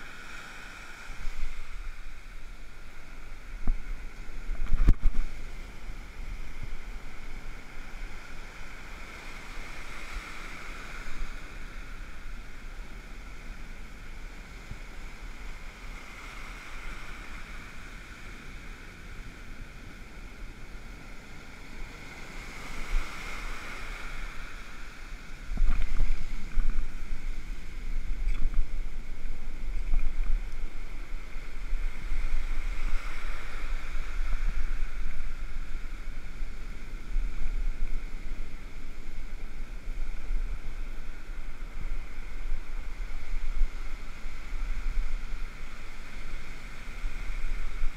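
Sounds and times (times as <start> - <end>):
ocean surf washing up beach: 0.0 - 47.9
wind rumbling on microphone: 0.0 - 47.9.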